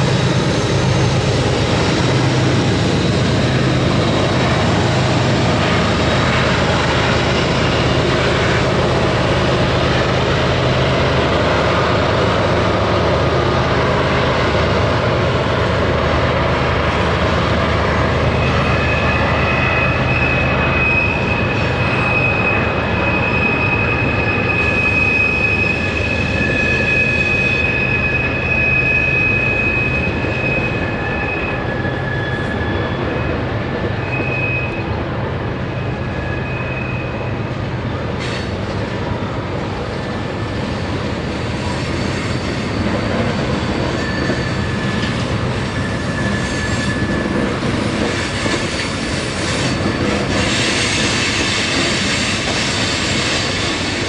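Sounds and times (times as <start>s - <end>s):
freight train rumble: 0.0s - 54.0s
train wheel squeal: 0.0s - 54.0s.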